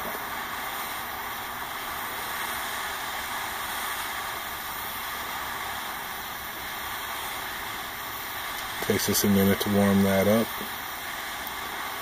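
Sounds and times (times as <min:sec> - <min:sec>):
torch lighter flame hissing: 0:00.0 - 0:12.0.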